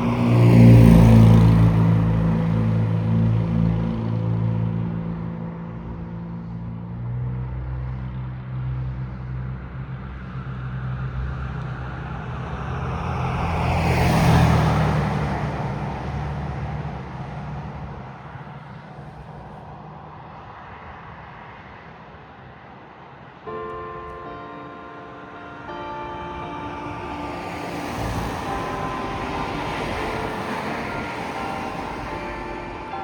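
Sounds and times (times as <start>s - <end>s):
road vehicle passing: 0.0s - 33.0s.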